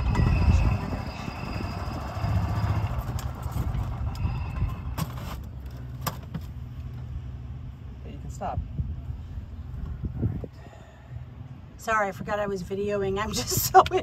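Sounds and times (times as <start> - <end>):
golf cart engine rumbling: 0.0 - 14.0.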